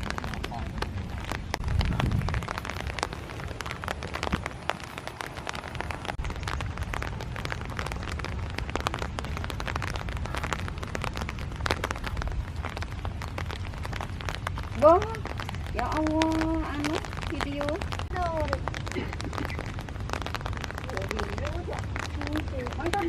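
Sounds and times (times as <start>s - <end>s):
low rain rumble: 0.0s - 23.0s
rain drops hitting: 0.0s - 23.0s.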